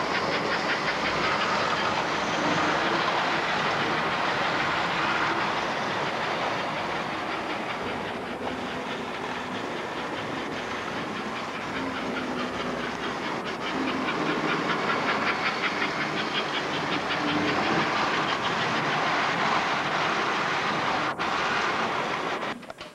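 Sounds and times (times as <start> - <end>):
model train wheels clicking on track: 0.0 - 22.9
rhythmic steam locomotive chuffing: 0.0 - 22.9.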